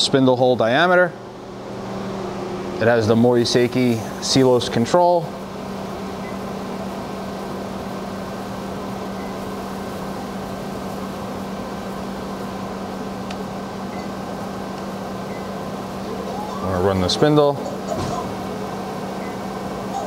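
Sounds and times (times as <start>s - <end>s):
machine hum and hiss: 0.0s - 20.0s.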